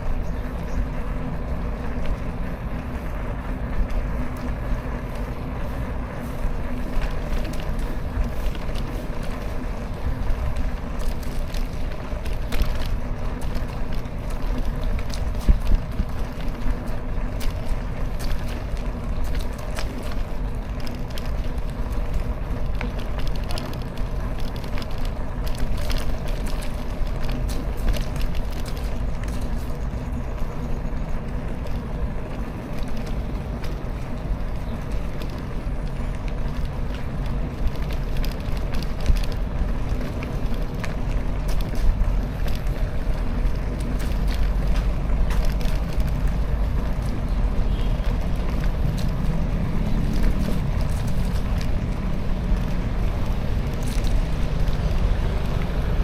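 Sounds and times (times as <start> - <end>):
road noise: 0.0 - 56.0
small clicks and rattles: 0.0 - 56.0
wind buffeting microphone: 0.0 - 56.0.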